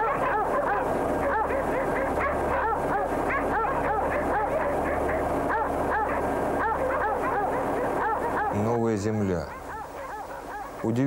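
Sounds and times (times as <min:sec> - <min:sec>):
dogs barking and yelping: 0:00.0 - 0:11.0
steady low hum: 0:00.0 - 0:11.0.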